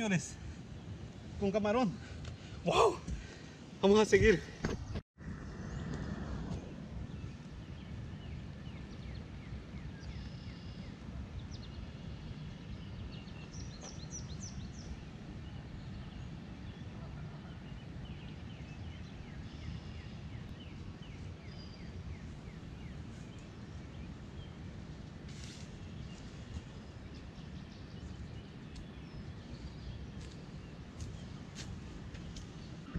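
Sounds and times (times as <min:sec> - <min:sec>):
steady low rumble: 0:00.0 - 0:32.9.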